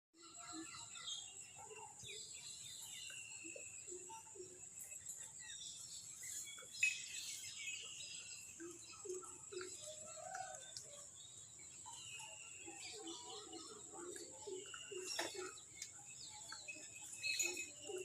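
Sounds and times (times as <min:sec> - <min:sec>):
birds chirping: 0:00.2 - 0:18.0.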